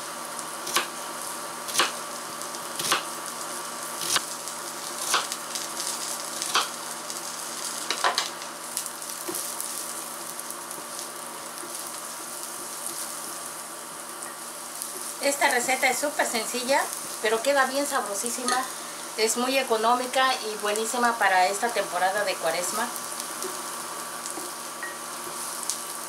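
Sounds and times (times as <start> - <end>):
garlic sizzling in oil: 0.0 - 26.0.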